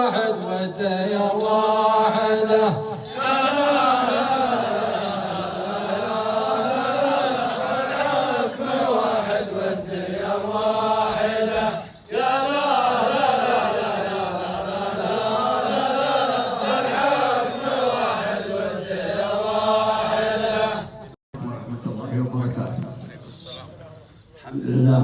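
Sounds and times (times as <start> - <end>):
person chanting a poem: 0.0 - 22.5.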